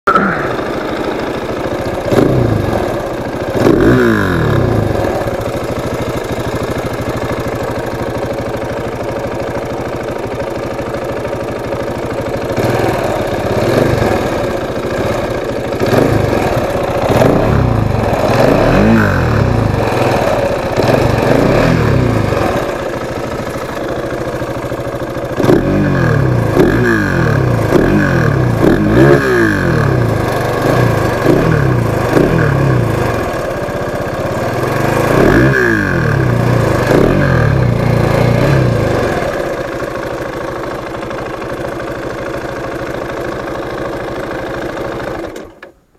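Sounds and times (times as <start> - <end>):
motorcycle engine revving: 0.0 - 45.5.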